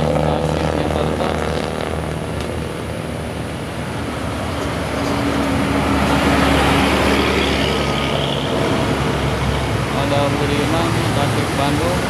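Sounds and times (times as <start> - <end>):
bus engine climbing past: 0.0 - 12.0
road traffic: 0.0 - 12.0.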